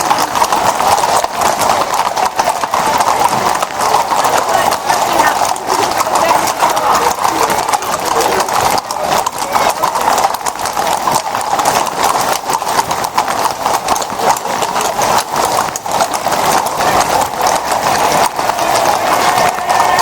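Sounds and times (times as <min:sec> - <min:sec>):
horse hooves on cobblestones: 0:00.0 - 0:20.0.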